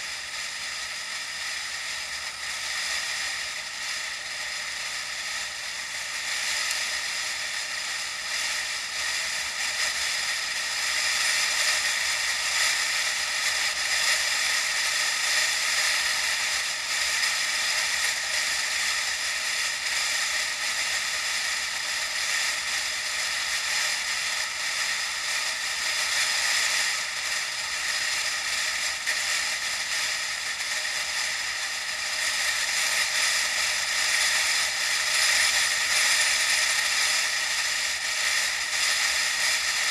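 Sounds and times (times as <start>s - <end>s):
bicycle riding hiss: 6.1s - 39.9s.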